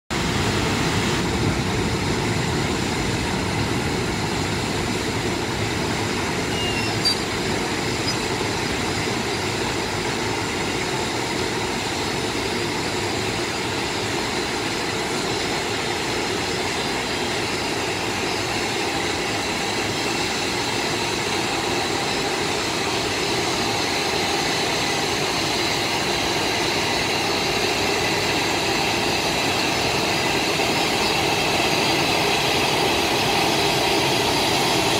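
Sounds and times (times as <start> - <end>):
electric locomotive humming: 0.2 - 34.9.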